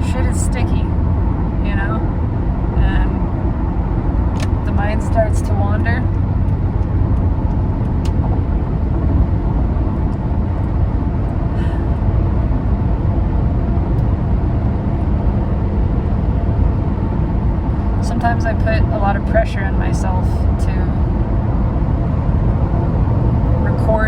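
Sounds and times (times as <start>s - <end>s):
vehicle road noise rumble: 0.0s - 24.0s.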